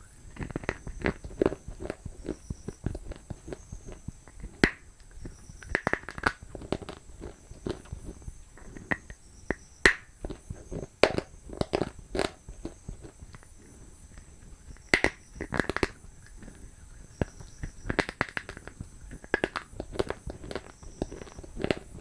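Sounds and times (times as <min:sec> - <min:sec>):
crunchy food chewing: 0:00.0 - 0:22.0.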